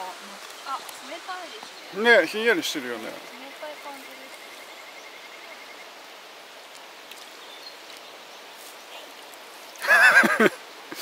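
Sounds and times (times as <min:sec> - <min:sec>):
river running over rocks: 0:00.0 - 0:11.0.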